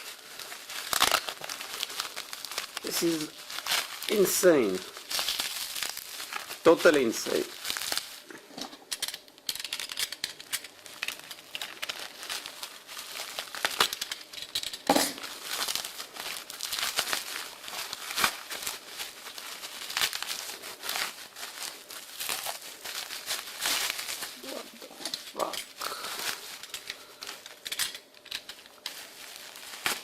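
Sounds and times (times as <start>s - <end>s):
packaging tearing: 0.0s - 30.0s
wrapping crinkling and rustling: 0.0s - 30.0s.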